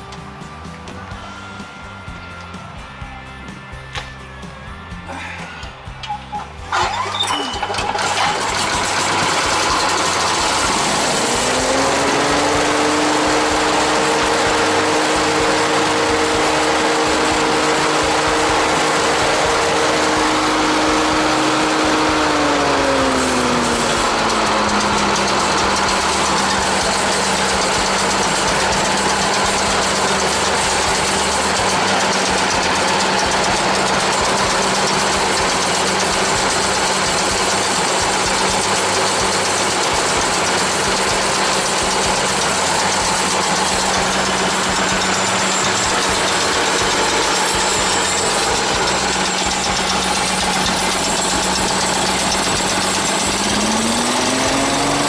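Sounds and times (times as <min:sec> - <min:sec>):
engine running: 0:00.0 - 0:55.0
chipper shredder rattling: 0:06.6 - 0:55.0.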